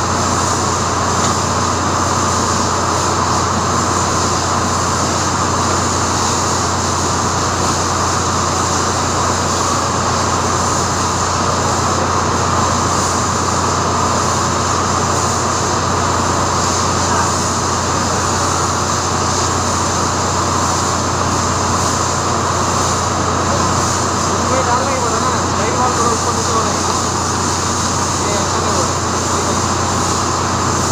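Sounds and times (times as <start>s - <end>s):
machinery hiss: 0.0s - 30.9s.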